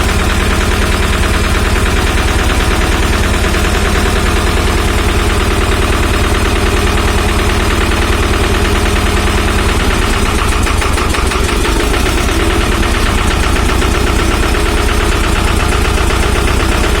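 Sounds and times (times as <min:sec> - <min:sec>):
diesel tractor engine clattering: 0:00.0 - 0:17.0.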